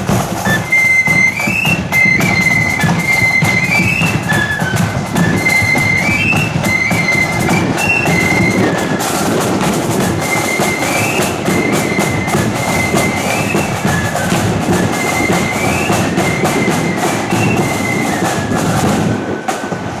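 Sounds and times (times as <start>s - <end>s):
high flutes playing melody: 0.0s - 20.0s
snare drums: 0.0s - 20.0s.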